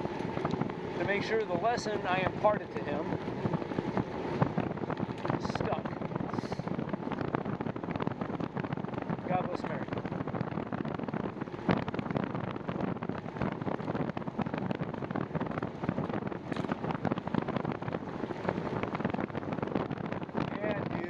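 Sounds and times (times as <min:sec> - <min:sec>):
road noise: 0:00.0 - 0:21.0
wind buffeting microphone: 0:00.0 - 0:21.0.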